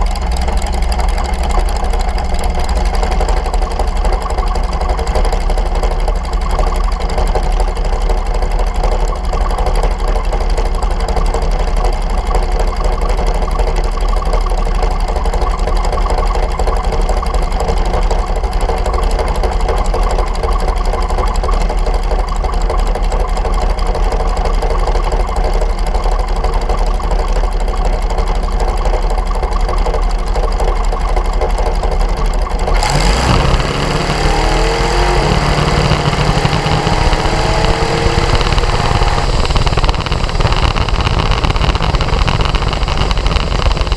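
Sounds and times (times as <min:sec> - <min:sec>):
dragster engine idling roughly: 0:00.0 - 0:43.9.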